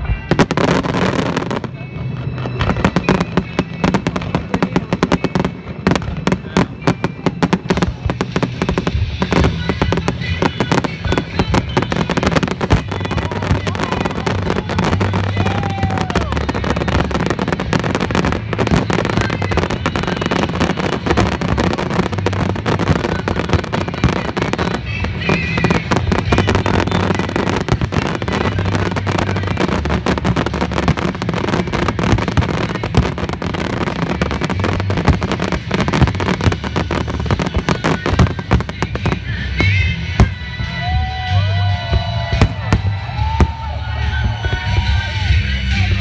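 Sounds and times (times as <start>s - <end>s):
fireworks crackling and bursting: 0.0s - 46.0s
music with steady bass line: 0.0s - 46.0s.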